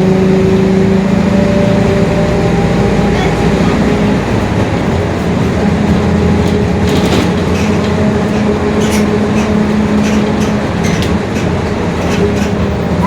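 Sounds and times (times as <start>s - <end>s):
bus diesel engine running: 0.0s - 13.0s
droning differential: 0.0s - 13.0s.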